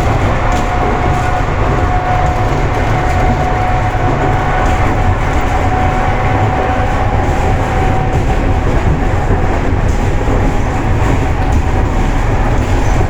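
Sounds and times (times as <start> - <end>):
train motor whine: 0.0 - 13.0
train wheels rumbling: 0.0 - 13.0.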